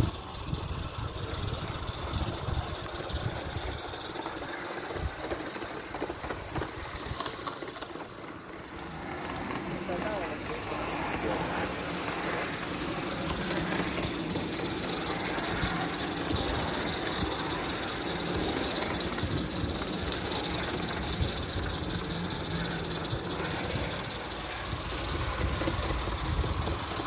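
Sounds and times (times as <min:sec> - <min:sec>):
steam locomotive hissing and chuffing: 0:00.0 - 0:27.0.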